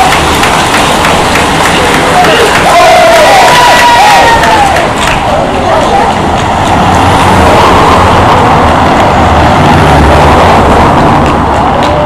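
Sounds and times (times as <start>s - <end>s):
tyre noise on brick paving: 0.0s - 12.0s.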